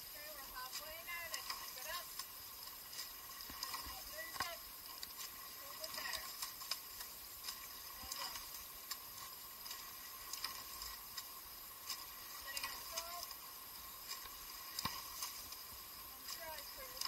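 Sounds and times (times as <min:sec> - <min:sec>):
oars clicking in oarlocks: 0:00.0 - 0:17.0
steady hiss: 0:00.0 - 0:17.0.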